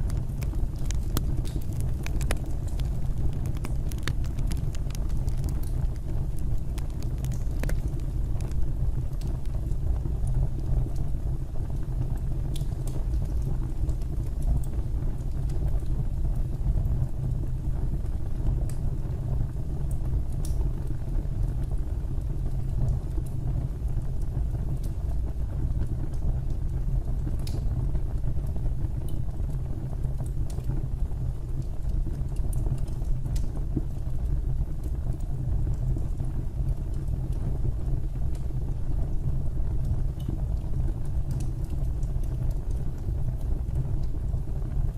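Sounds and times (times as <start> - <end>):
fire crackles: 0.0 - 44.9
wood fire rumbling: 0.0 - 44.9.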